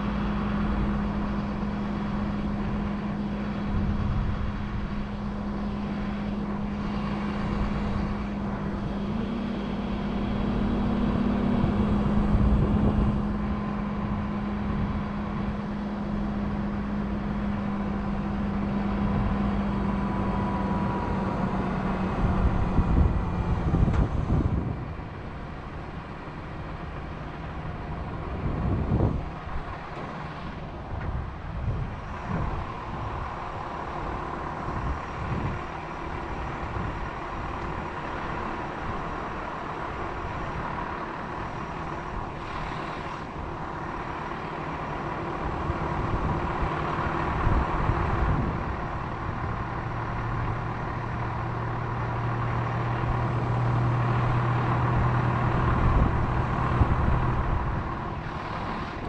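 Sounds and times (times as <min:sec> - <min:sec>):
crane engine running: 0:00.0 - 0:59.0.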